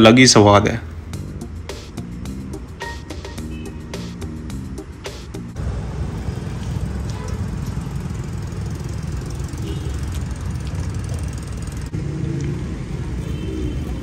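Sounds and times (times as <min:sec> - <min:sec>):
road traffic: 0:00.7 - 0:14.0.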